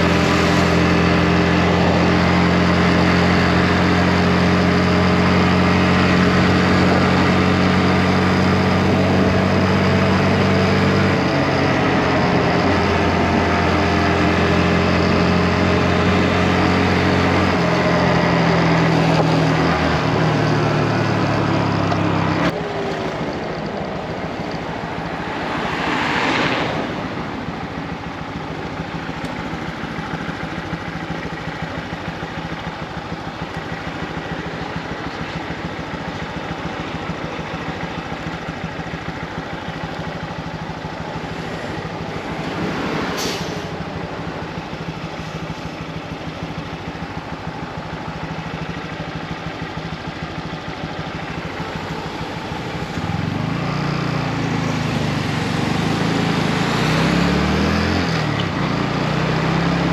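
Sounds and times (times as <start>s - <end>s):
motorcycle engine running: 0.0s - 25.6s, 26.8s - 42.7s, 43.7s - 59.9s.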